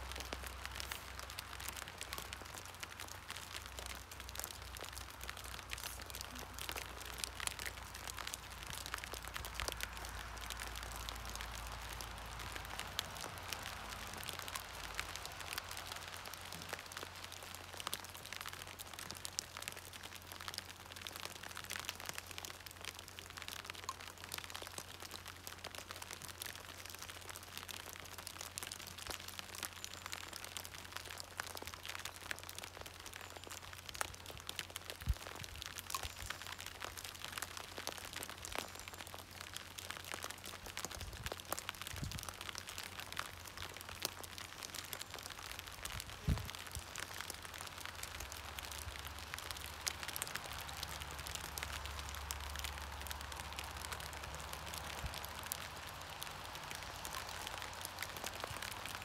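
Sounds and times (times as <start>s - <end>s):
rain on a plastic sheet: 0.0s - 59.0s.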